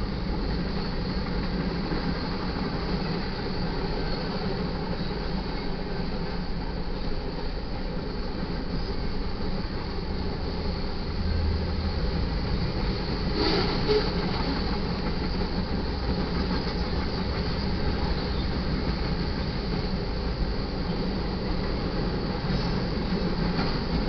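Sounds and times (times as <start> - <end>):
freight cars rumbling on rails: 0.0 - 24.0.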